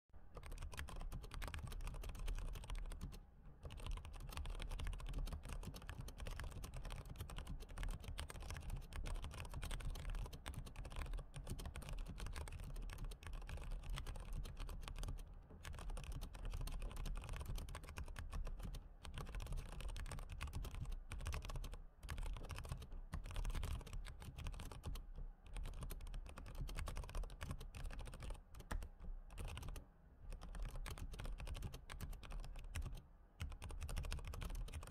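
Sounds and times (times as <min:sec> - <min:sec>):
keyboard typing clicks: 0:00.3 - 0:34.9.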